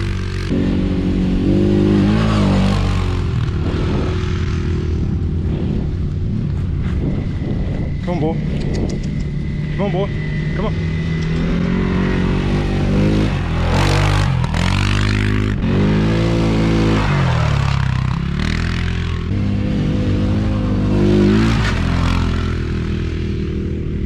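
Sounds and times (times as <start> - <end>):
atv engines revving: 0.0 - 24.0.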